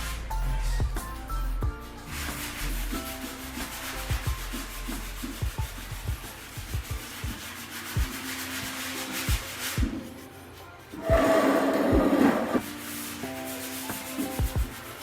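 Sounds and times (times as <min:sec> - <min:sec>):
sandpaper rubbing on wood: 0:01.8 - 0:15.0.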